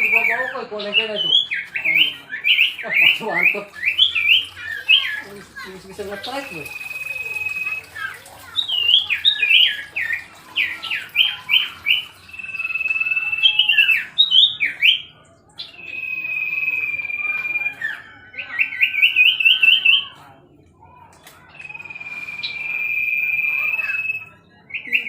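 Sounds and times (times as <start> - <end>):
bird singing whistles: 0.0 - 5.2, 6.3 - 20.2, 21.4 - 25.0.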